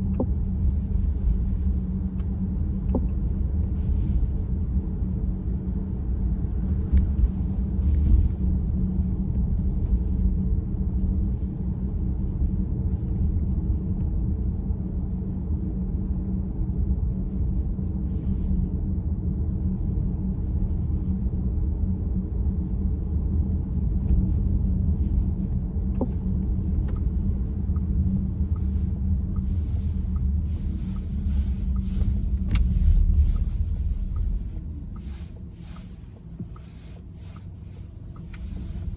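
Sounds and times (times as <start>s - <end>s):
road and engine rumble inside car: 0.0s - 38.9s.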